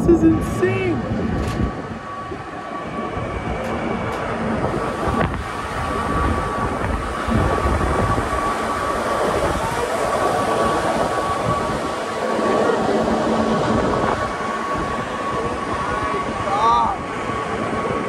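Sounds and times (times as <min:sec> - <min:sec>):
thin steady whine: 0:00.0 - 0:18.0
train wheels rumbling on rails: 0:00.0 - 0:18.0
wind rushing past window: 0:00.0 - 0:18.0.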